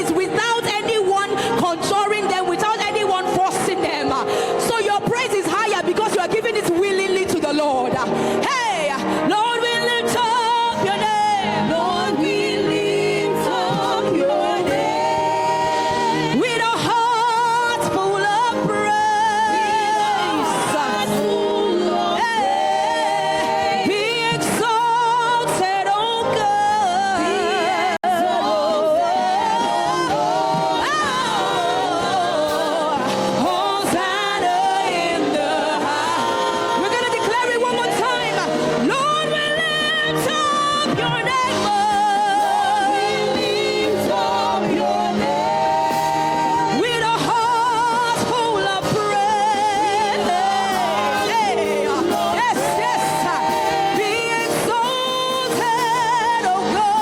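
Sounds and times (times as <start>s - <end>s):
gospel singing with accompaniment: 0.0s - 57.0s.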